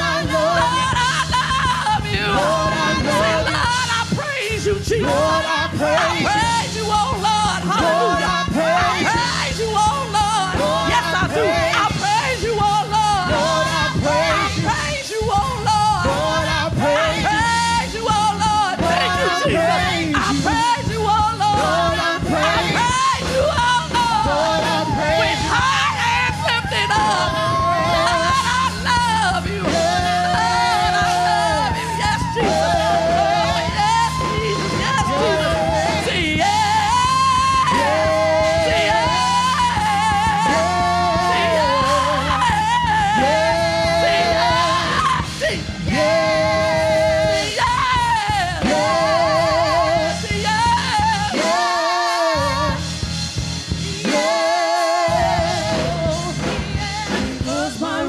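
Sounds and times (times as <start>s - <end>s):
singer with heavy vibrato: 0.0s - 53.0s
band accompaniment: 0.0s - 58.0s.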